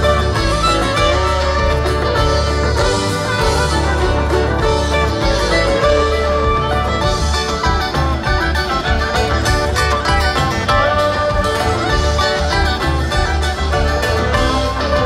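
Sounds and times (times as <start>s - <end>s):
live string band playing: 0.0s - 15.0s.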